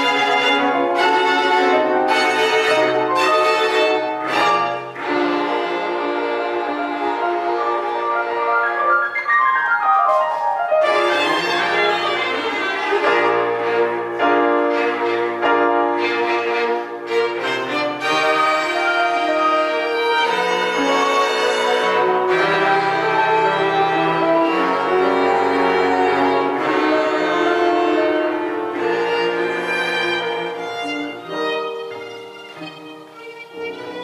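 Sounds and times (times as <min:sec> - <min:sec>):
cello: 0:00.0 - 0:09.3, 0:10.0 - 0:34.0
violin: 0:00.0 - 0:34.0.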